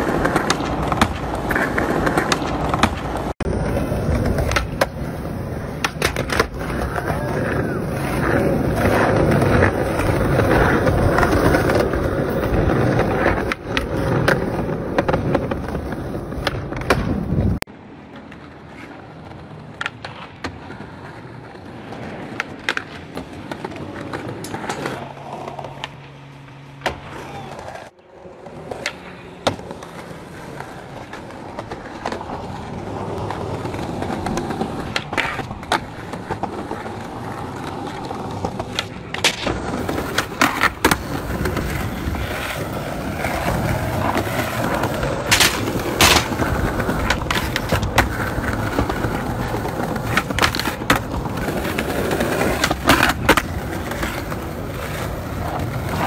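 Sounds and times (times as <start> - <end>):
skateboard clacks: 0.0 - 56.0
skateboard wheels rolling on concrete: 0.0 - 56.0.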